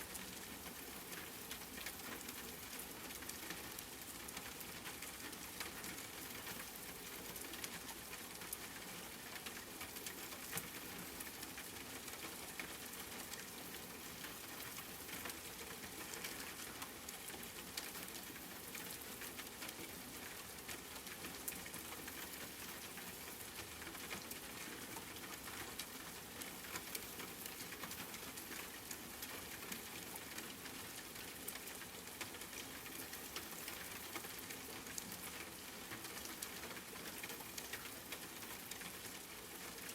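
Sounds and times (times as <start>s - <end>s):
rain falling: 0.0s - 39.9s
raindrops ticking: 0.0s - 39.9s.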